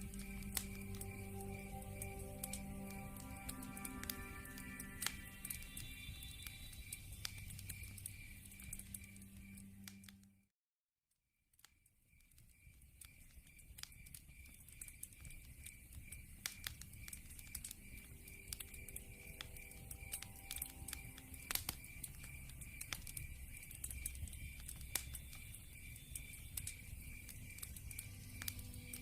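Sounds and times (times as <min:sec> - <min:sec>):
log fire crackling and popping: 0:00.0 - 0:10.1, 0:12.2 - 0:29.0
cricket chirping: 0:00.0 - 0:10.3, 0:11.7 - 0:29.0.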